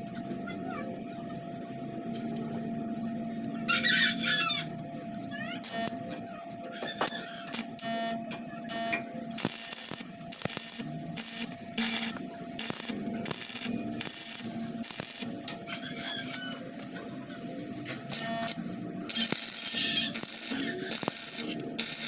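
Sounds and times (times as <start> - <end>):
arc welding crackling: 4.2 - 22.0.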